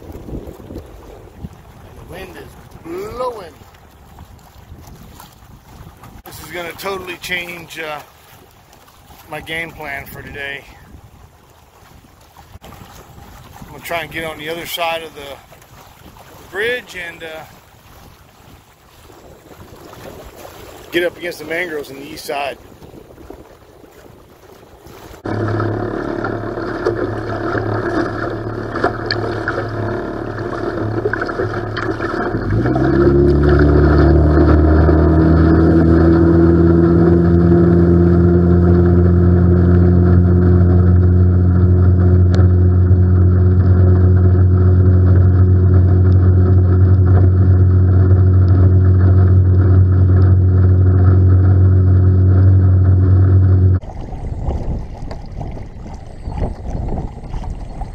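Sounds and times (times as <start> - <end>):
outboard motor running: 0.0 - 57.9
water rushing past hull: 0.0 - 57.9.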